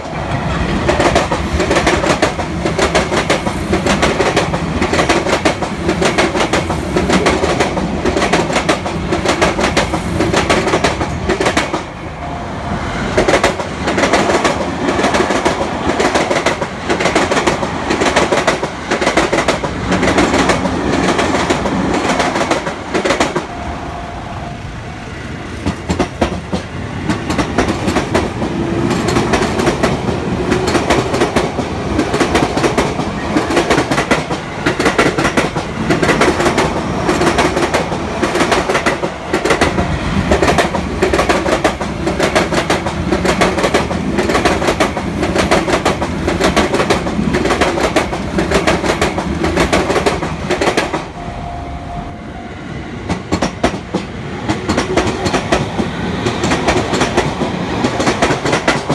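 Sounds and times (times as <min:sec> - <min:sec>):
train wheels clattering over rails: 0:00.0 - 0:12.0, 0:13.2 - 0:23.6, 0:25.4 - 0:51.1, 0:53.0 - 0:58.9.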